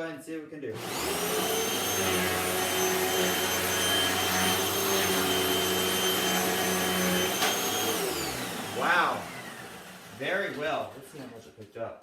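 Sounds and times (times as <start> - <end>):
vacuum cleaner running: 0.7 - 11.4.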